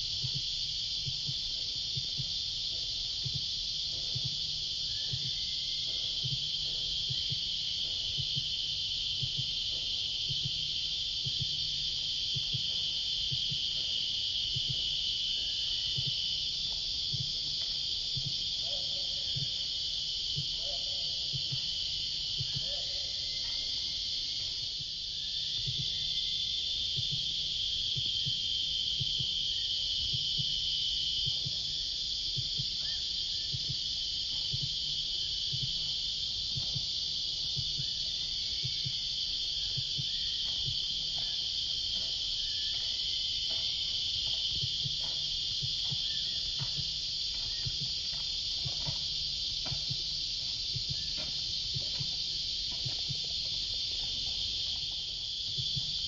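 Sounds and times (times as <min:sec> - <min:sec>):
cicadas droning: 0:00.0 - 0:56.0
faint irregular ticks: 0:00.0 - 0:56.0.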